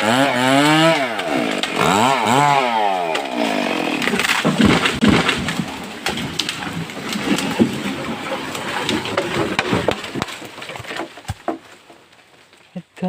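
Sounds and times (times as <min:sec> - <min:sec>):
tree crashing down: 0:00.0 - 0:12.5
wood snapping and cracking: 0:00.0 - 0:12.7.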